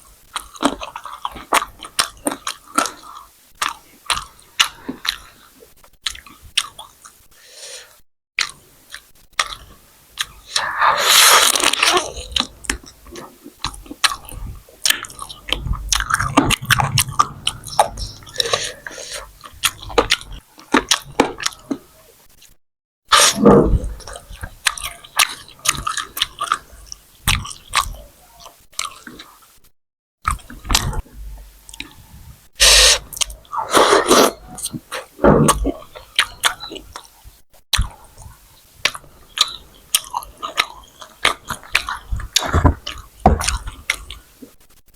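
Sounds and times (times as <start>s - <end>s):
person chewing food: 0.1s - 29.6s, 30.2s - 44.7s.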